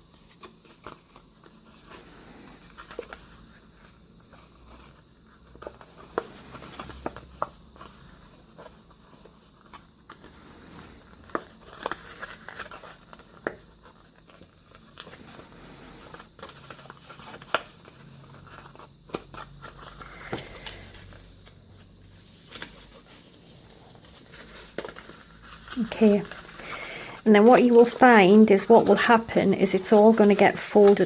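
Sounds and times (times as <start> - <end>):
paper rustling: 0.0 - 31.0.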